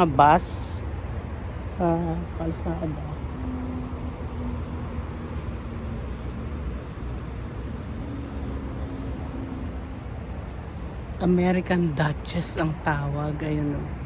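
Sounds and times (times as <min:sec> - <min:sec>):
faint hum: 0:00.0 - 0:14.0
low engine rumble: 0:00.0 - 0:14.0.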